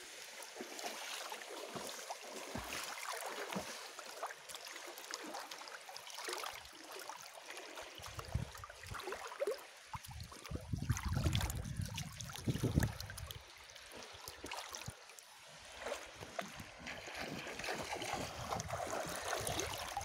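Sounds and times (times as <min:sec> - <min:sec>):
sea water lapping and sloshing: 0:00.0 - 0:20.0.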